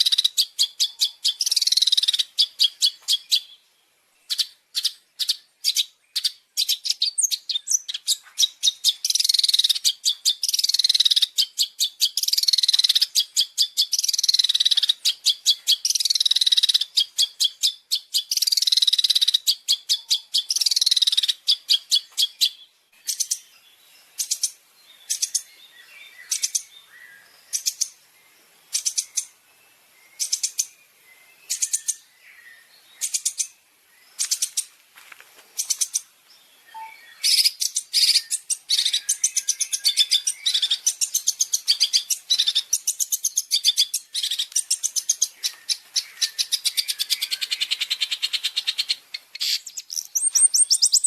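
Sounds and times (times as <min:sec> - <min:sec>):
songbird rattling calls: 0:00.0 - 0:03.6, 0:04.3 - 0:23.5, 0:24.2 - 0:25.5, 0:26.2 - 0:26.7, 0:27.5 - 0:28.0, 0:28.7 - 0:29.4, 0:30.2 - 0:30.8, 0:33.0 - 0:34.7, 0:36.7 - 0:51.0.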